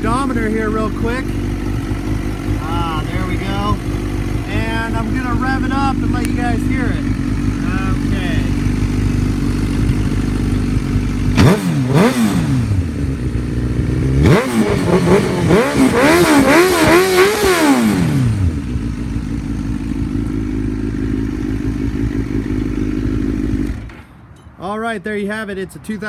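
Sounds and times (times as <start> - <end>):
motorcycle engine idling and revving: 0.0 - 24.5.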